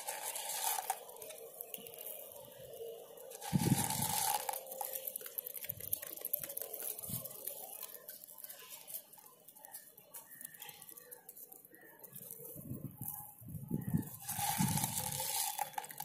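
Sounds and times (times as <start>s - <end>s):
pigeons pecking on concrete: 0.0s - 16.0s.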